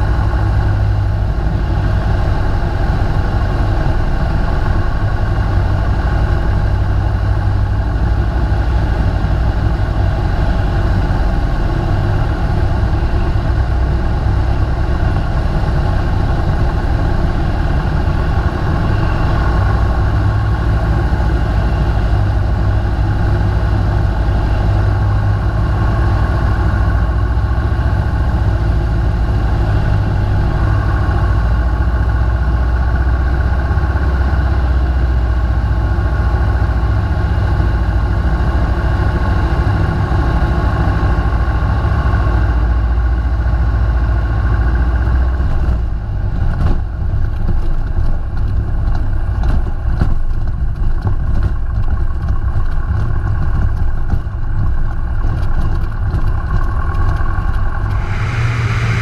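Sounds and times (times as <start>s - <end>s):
propeller plane engine: 0.0s - 59.0s.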